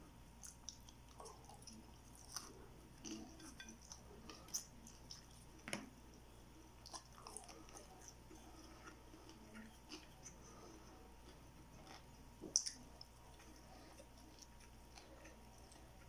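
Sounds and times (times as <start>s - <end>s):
person chewing and smacking: 0.3s - 16.0s.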